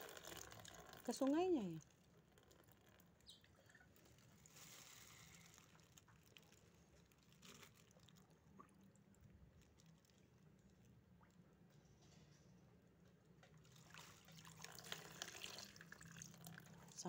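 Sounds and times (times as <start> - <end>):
water dripping and splashing: 0.0 - 11.7, 13.4 - 17.0.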